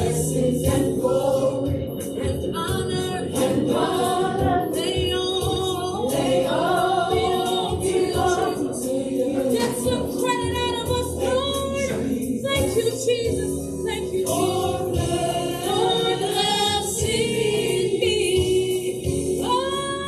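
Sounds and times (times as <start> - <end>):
gospel choir singing: 0.0 - 20.0.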